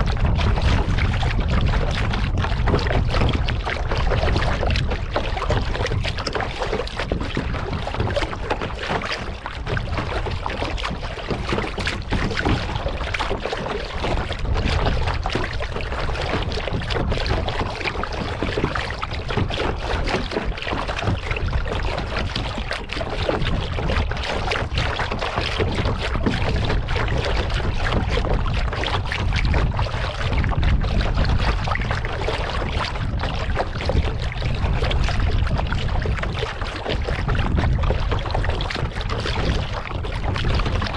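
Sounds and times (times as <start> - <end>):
water splashing from paddling: 0.0 - 40.9
wind on microphone: 0.0 - 40.9.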